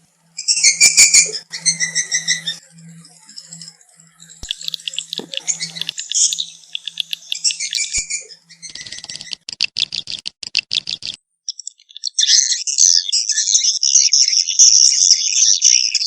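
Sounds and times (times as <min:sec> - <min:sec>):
high twittering bird chirps: 0:00.3 - 0:16.0.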